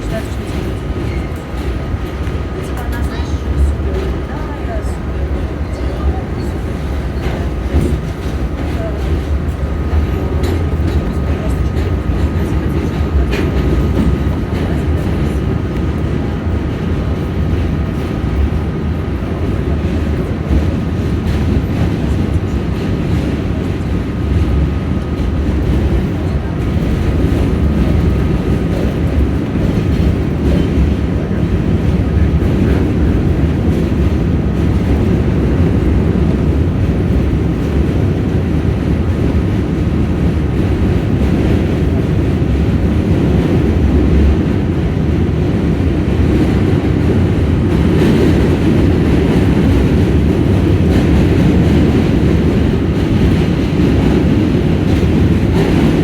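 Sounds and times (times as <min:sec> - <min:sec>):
subway train rumble: 0:00.0 - 0:56.0.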